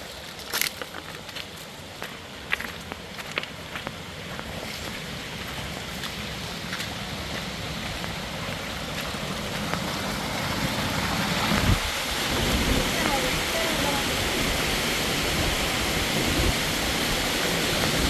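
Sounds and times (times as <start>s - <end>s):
rushing river water: 0.0s - 18.0s.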